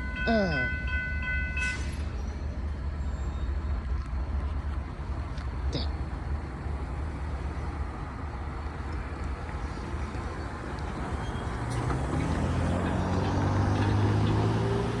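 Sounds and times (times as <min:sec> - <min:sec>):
diesel locomotive engines droning: 0:00.0 - 0:15.0.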